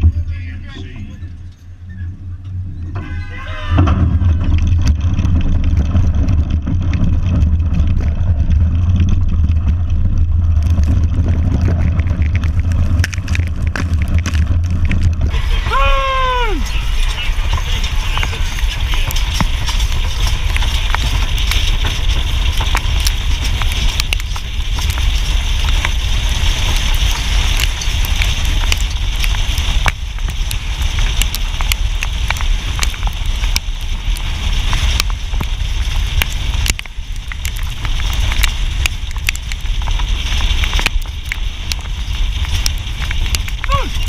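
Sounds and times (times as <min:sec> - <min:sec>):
wagon and horses rumbling: 0:00.0 - 0:44.0
sharp clicks and crackles: 0:03.8 - 0:44.0.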